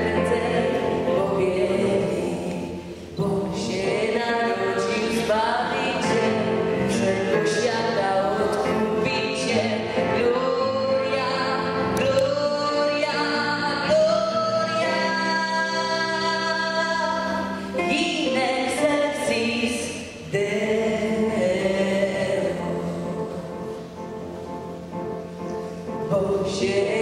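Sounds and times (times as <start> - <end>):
instrumental accompaniment: 0.0 - 27.0.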